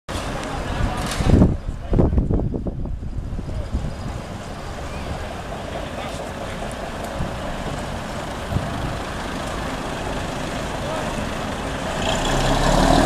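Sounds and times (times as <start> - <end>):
bus engine rumbling past: 0.1 - 13.0.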